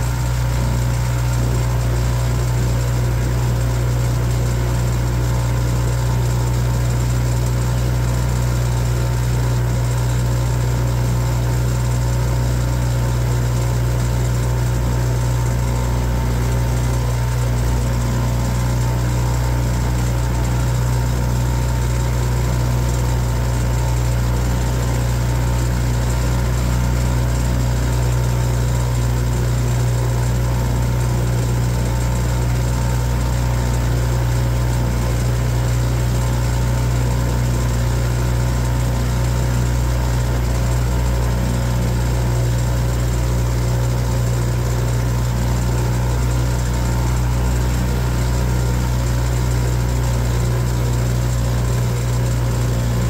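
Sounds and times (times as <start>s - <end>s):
boat engine drone: 0.0s - 53.0s.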